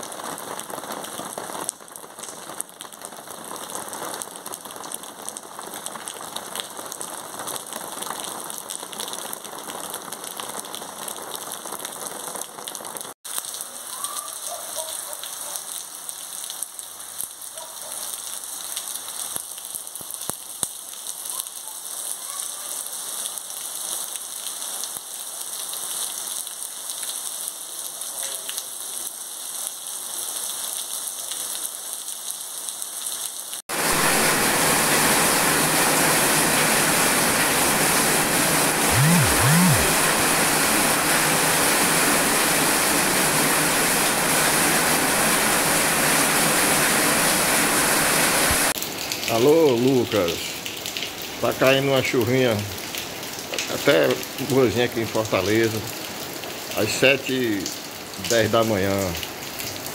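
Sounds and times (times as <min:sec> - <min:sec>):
rain falling on wet street: 0:00.0 - 0:59.9.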